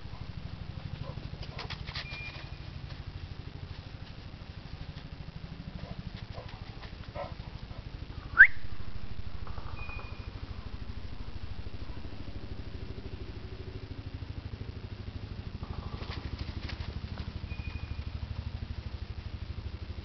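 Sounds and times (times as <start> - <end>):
pulsing low rumble: 2.5 - 20.0.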